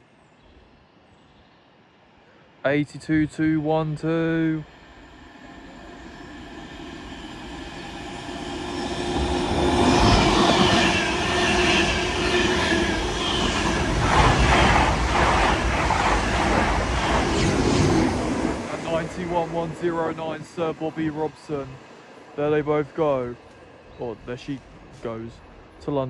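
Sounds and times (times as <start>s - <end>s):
train passing at speed: 3.0s - 26.0s.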